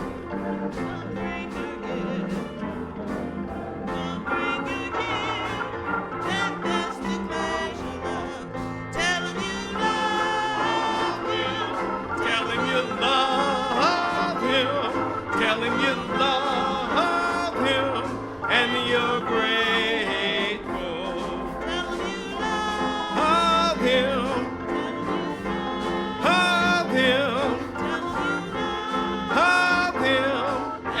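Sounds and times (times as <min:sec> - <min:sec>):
instrumental accompaniment: 0:00.0 - 0:31.0
person singing with vibrato: 0:00.0 - 0:31.0.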